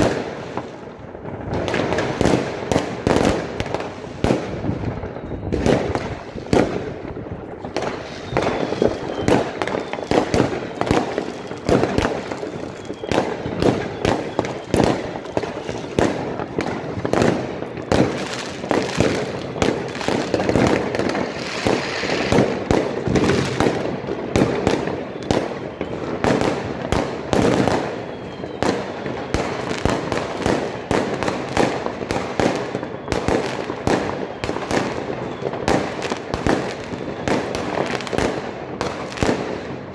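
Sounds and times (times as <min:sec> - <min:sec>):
faint fireworks whistle: 0:00.0 - 0:39.9
fireworks bangs and crackles: 0:00.0 - 0:39.9.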